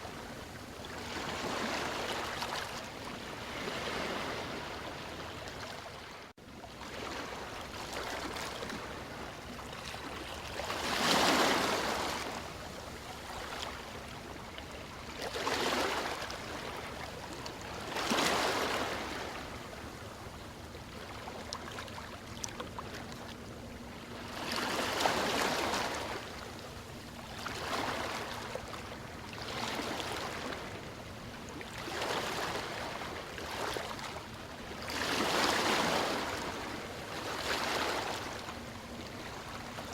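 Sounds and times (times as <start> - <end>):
ocean waves breaking: 0.0 - 6.2, 6.9 - 20.0, 20.9 - 39.9.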